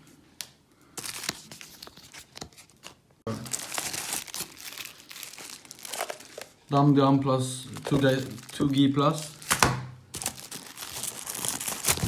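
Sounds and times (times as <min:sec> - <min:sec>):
packaging crinkling and rustling: 0:01.0 - 0:06.7, 0:07.7 - 0:12.0.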